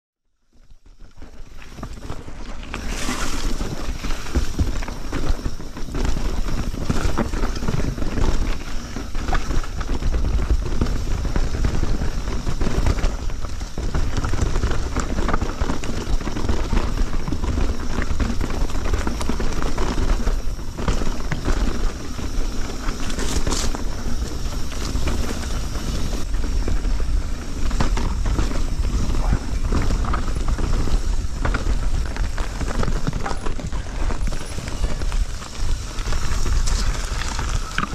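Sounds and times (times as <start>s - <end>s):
bike tyres on dirt: 0.4s - 37.9s
wind rumble on microphone: 0.9s - 37.9s
bike clattering over bumps: 1.0s - 37.9s.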